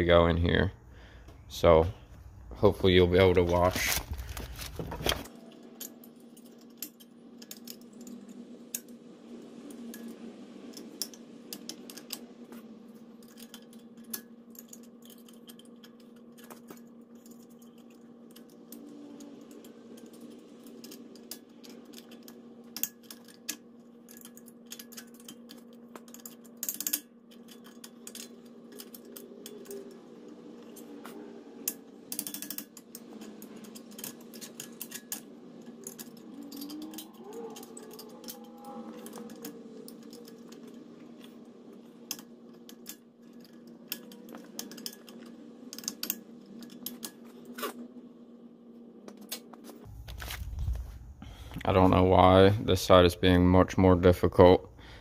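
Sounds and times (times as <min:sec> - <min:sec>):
steady low hum: 0:00.0 - 0:55.0
metallic clicks and scrapes: 0:03.2 - 0:48.0.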